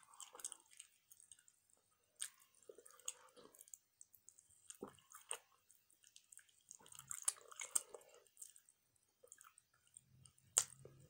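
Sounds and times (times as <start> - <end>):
wet chewing and lip smacks: 0.0 - 11.0.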